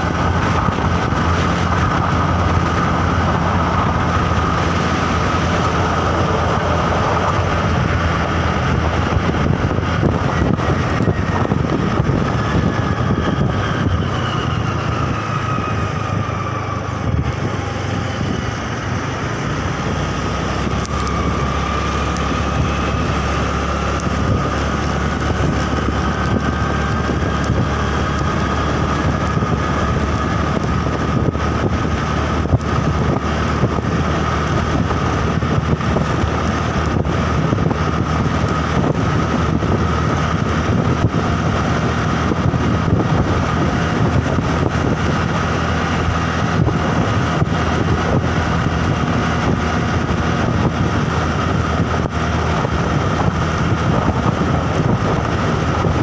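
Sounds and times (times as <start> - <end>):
steady high whine: 0.0 - 56.0
vehicle engine and road noise: 0.0 - 56.0
wind buffeting microphone: 0.0 - 56.0.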